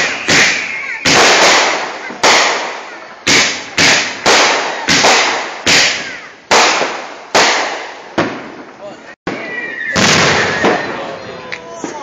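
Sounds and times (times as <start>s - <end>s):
fireworks bangs echoing: 0.0s - 12.0s.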